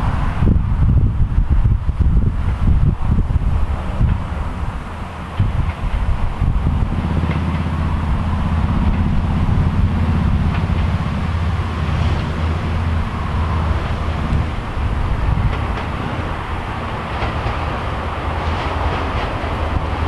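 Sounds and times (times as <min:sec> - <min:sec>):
diesel engine deep beat: 0:00.0 - 0:20.0.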